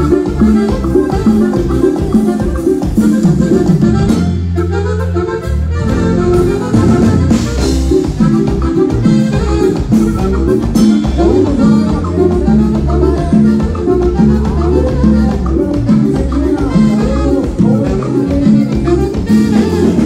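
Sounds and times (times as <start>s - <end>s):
accordion: 0.0s - 20.0s
live dance band: 0.0s - 20.0s.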